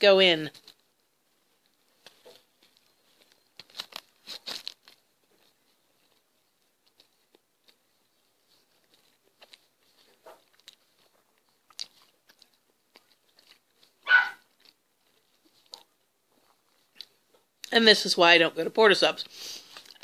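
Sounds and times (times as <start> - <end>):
chewing crunches: 0.6 - 17.7.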